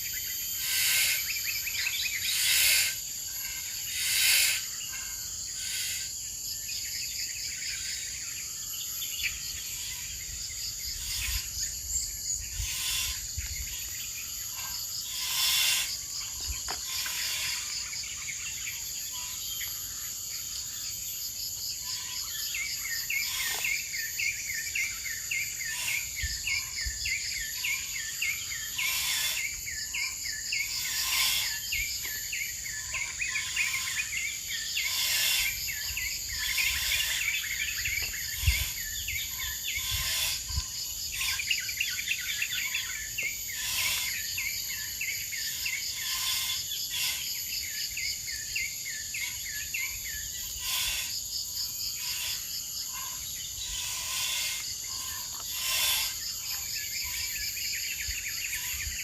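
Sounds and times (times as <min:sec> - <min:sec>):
high-pitched insect drone: 0:00.0 - 0:59.0
insect chirps: 0:00.0 - 0:59.0
lower insect calls: 0:00.0 - 0:59.0.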